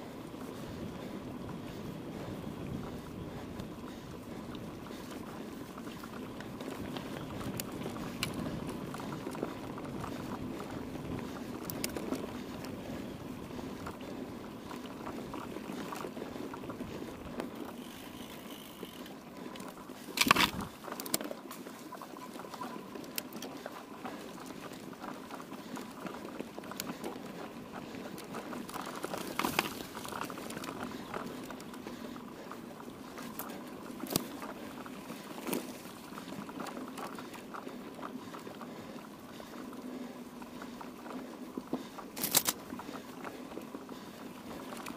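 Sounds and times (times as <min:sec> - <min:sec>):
bike clicks: 0:00.0 - 0:44.9
bike tyres crunching on dirt: 0:00.1 - 0:44.9.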